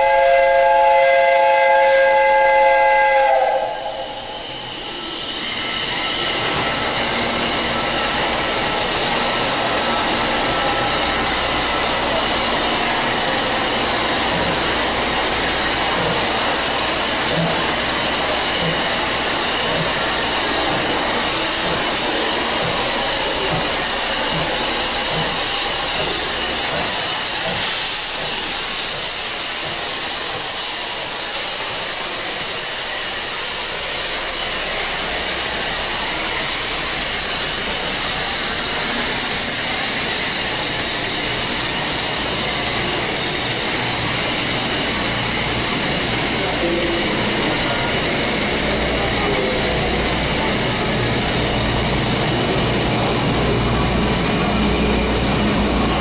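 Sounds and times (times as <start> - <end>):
steam train hissing: 0.0 - 56.0.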